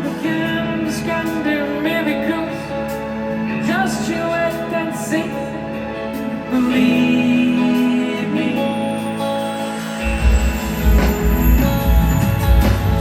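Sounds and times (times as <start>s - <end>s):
band playing soft-rock ballad: 0.0s - 13.0s.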